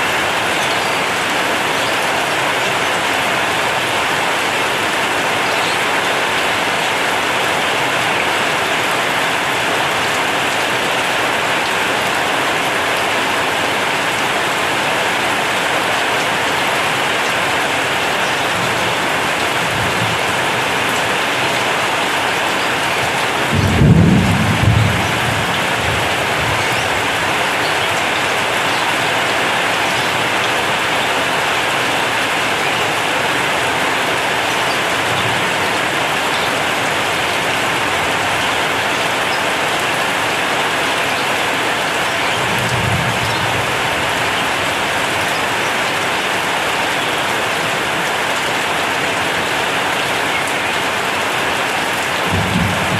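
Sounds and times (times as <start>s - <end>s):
rain on metal roof: 0.0s - 52.9s.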